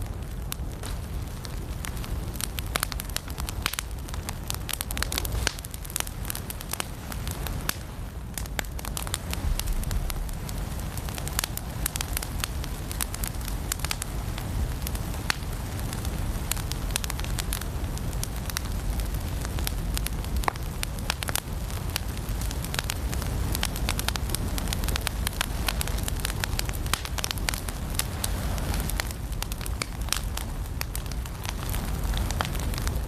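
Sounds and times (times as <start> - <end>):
firewood crackling and popping: 0.0 - 33.0
low rumble of flames: 0.0 - 33.0.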